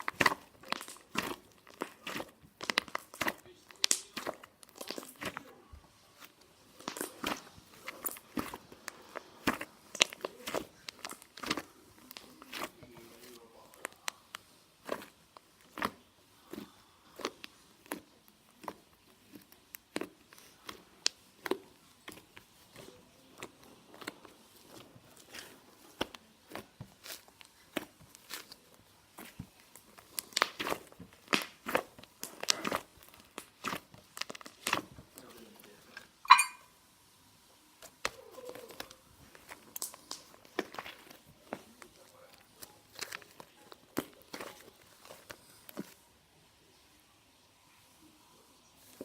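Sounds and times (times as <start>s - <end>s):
slime crackling pops: 0.0s - 5.5s, 6.2s - 35.4s, 37.8s - 46.0s.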